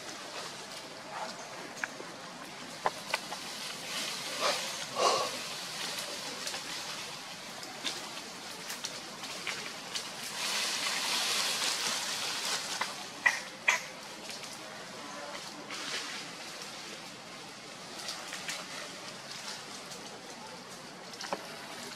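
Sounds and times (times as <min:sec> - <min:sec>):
leaves rustling and crackling: 0:00.0 - 0:21.9.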